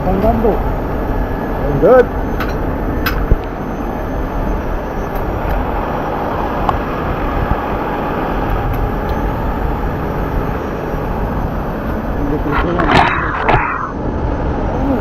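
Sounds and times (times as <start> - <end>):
trucks and traffic rumbling: 0.0 - 15.0.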